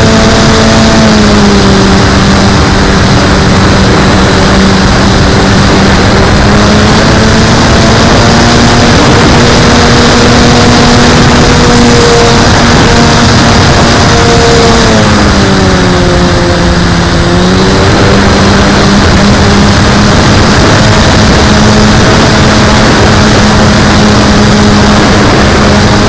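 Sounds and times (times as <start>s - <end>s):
model plane motor humming: 0.0s - 26.0s
wind rush on microphone: 0.0s - 26.0s.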